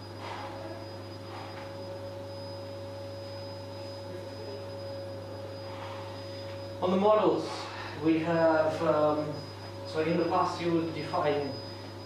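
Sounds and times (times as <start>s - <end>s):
faint steady whine: 0.0s - 12.0s
low electrical hum: 0.0s - 12.0s.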